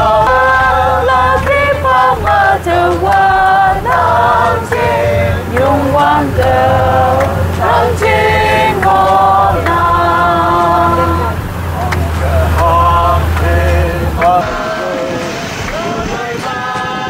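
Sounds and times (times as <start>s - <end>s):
group singing in unison: 0.0s - 17.0s.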